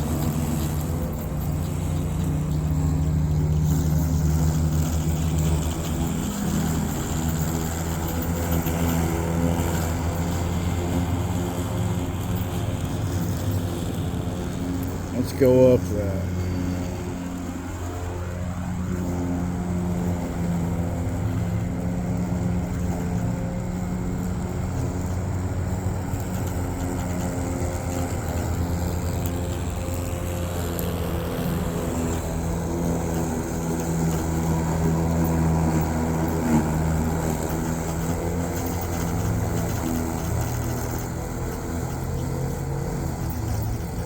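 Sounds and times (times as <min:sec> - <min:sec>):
electric lawn mower humming: 0:00.0 - 0:44.0.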